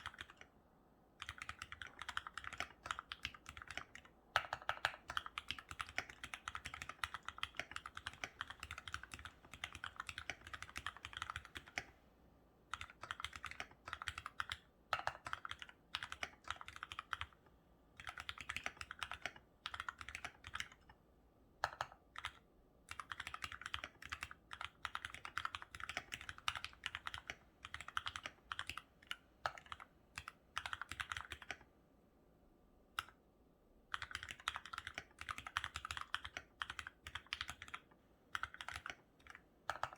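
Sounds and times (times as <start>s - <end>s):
typing on mechanical keyboard: 0.0s - 0.5s, 1.2s - 12.0s, 12.7s - 17.4s, 18.0s - 21.0s, 21.6s - 31.7s, 33.9s - 39.9s.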